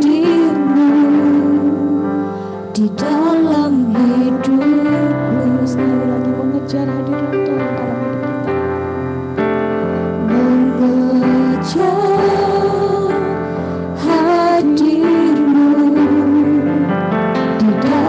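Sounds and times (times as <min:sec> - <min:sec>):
women singing worship duet: 0:00.0 - 0:08.3, 0:10.2 - 0:18.0
instrumental accompaniment: 0:00.0 - 0:18.0.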